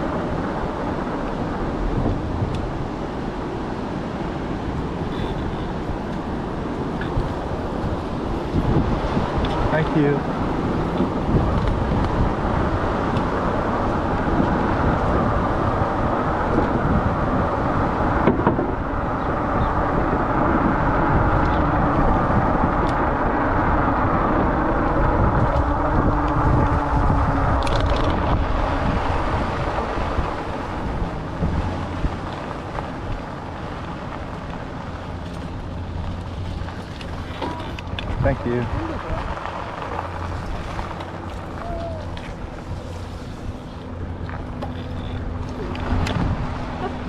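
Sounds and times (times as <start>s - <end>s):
tyres rolling on path: 0.0s - 47.0s
wind over microphone: 0.0s - 47.0s.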